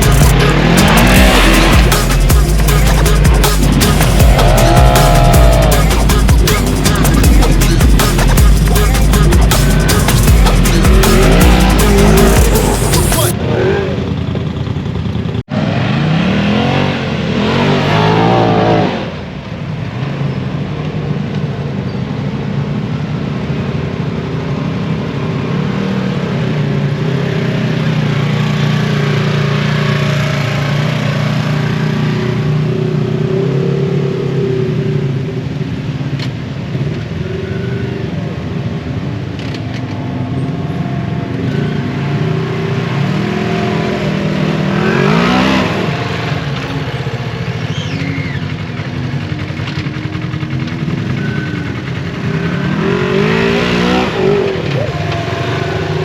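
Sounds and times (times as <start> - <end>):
off-road vehicle engine revving: 0.0 - 19.4, 25.1 - 35.4, 40.5 - 56.0.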